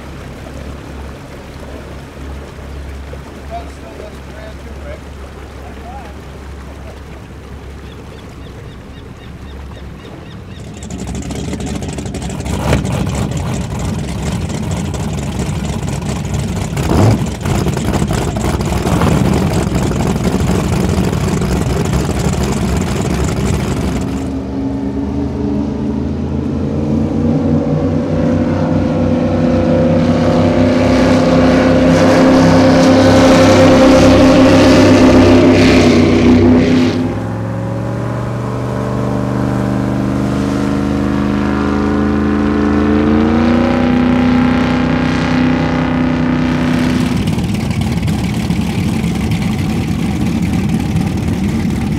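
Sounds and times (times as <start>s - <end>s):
deep many-toned boat engine: 0.0s - 51.9s
hulls rushing through water: 0.0s - 51.9s
powerboat engines running: 0.0s - 51.9s.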